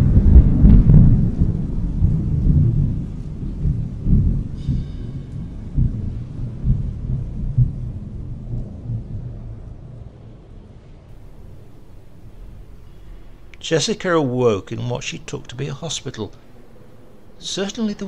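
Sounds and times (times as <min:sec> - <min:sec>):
thunder rumble with heavy booms: 0:00.0 - 0:18.0.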